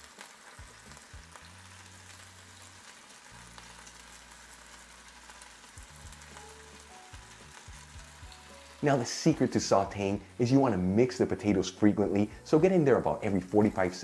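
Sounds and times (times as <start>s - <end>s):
potato slices sizzling in oil: 0.0s - 14.0s.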